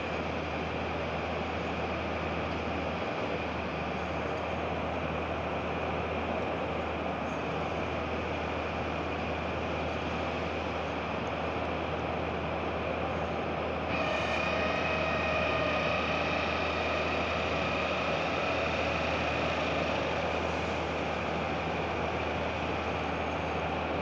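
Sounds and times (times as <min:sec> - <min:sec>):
construction machinery engine hum: 0:00.0 - 0:24.0
high whine: 0:00.0 - 0:24.0.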